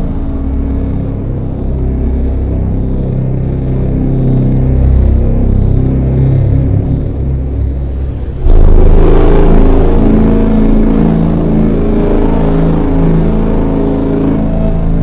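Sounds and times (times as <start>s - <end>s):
loud low droning groan: 0.0s - 15.0s
steady low rumble: 0.0s - 15.0s.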